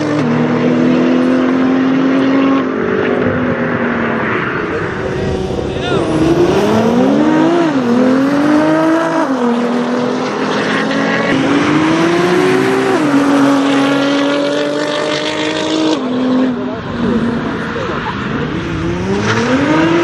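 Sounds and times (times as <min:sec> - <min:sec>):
sports cars accelerating hard: 0:00.0 - 0:20.0.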